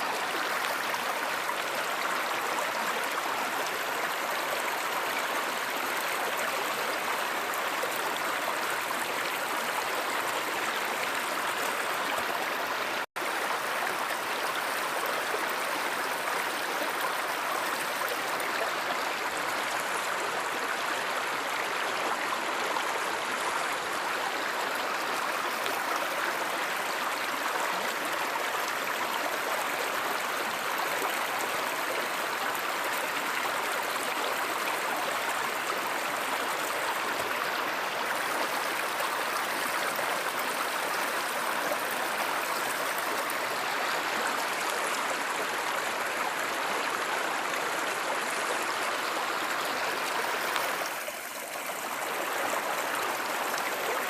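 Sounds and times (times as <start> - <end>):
stream water rushing and gurgling: 0.0 - 54.0.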